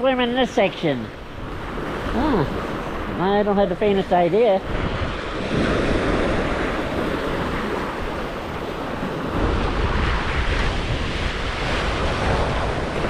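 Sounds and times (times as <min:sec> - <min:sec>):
waves washing onto beach: 0:00.0 - 0:13.0
wind buffeting microphone: 0:00.6 - 0:13.0.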